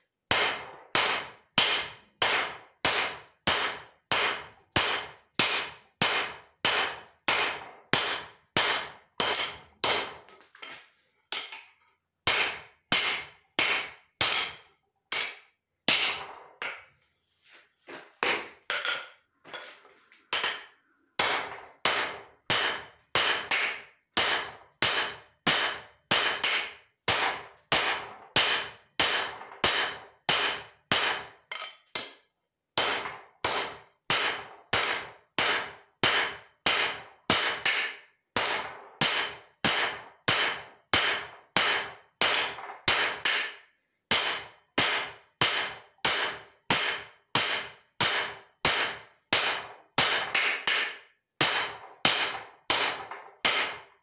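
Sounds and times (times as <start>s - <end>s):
hammer striking steel on anvil: 0.3s - 10.2s, 12.3s - 16.8s, 20.4s - 32.2s, 32.8s - 53.9s.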